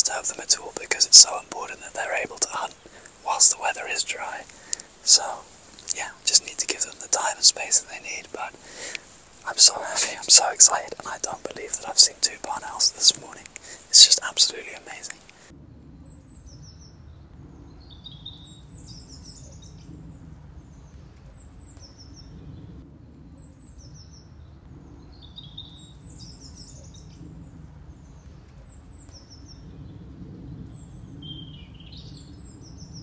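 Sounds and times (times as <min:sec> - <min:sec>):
low rumble of open field: 0:00.0 - 0:33.0
songbird singing: 0:00.0 - 0:33.0.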